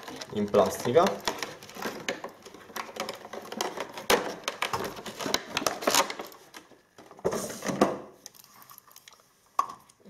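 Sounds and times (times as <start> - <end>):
plastic packaging crackling: 0.0 - 7.3, 8.2 - 10.0.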